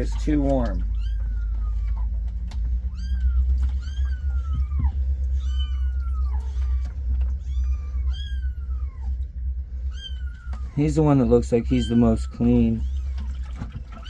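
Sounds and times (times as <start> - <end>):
kittens mewing: 0.0 - 14.0
low hum: 0.0 - 14.0.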